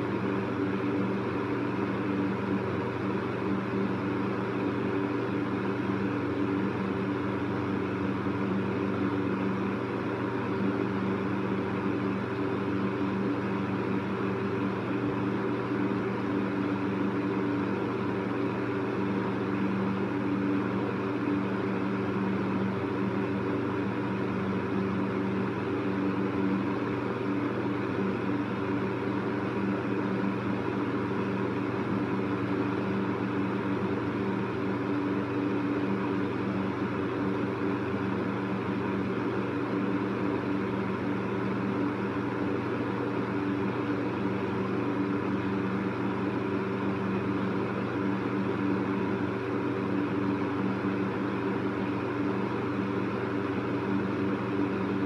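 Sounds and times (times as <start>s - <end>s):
electric fan whirring: 0.0s - 55.0s.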